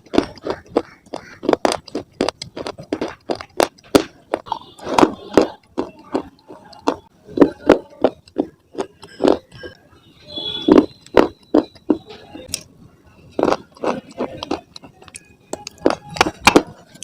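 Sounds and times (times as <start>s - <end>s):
chewing stone crunches: 0.0s - 9.8s, 10.6s - 12.7s, 13.3s - 17.0s.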